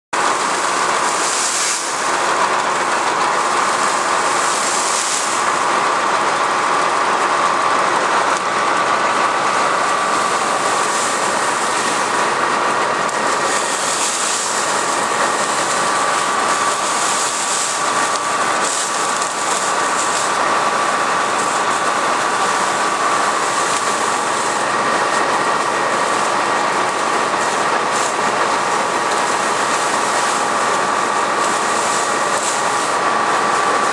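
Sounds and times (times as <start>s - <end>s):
forage harvester running: 0.2s - 33.9s
steady machine whine: 0.2s - 33.9s.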